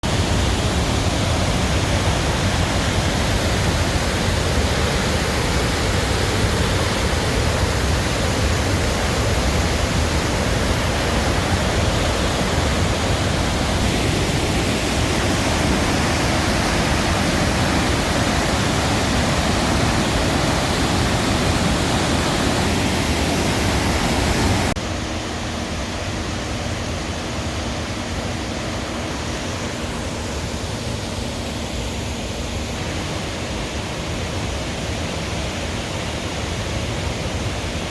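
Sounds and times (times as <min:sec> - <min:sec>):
floodwater rushing over waterfall: 0:00.0 - 0:37.9.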